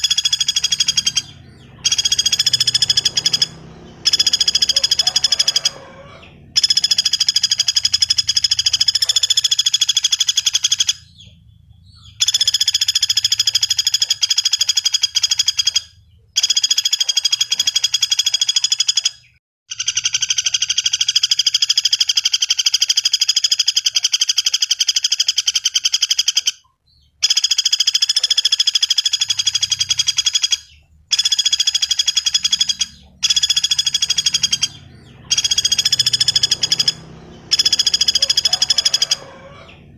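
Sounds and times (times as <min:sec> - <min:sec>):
woodpecker rattling trills: 0:00.0 - 0:39.9.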